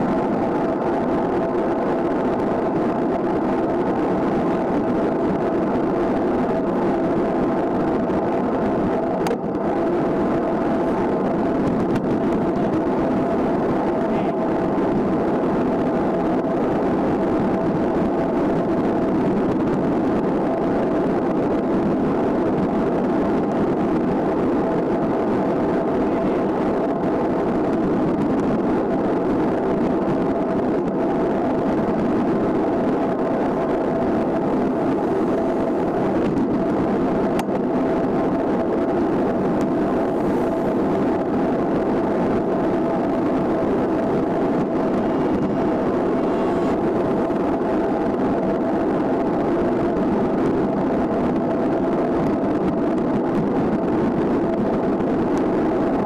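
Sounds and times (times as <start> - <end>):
bicycle tyre and wind noise: 0.0 - 56.0
thin steady hum: 0.0 - 56.0.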